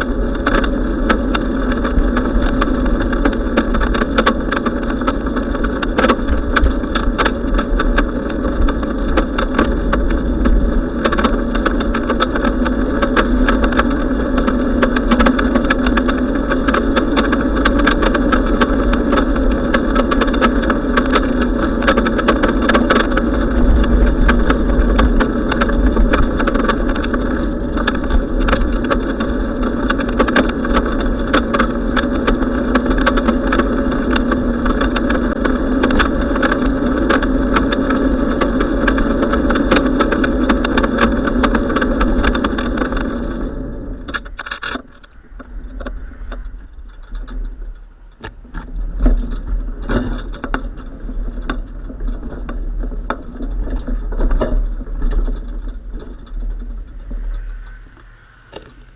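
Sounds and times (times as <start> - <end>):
bicycle road and wind noise: 0.0 - 58.9
small clicks and rattles: 0.0 - 58.9.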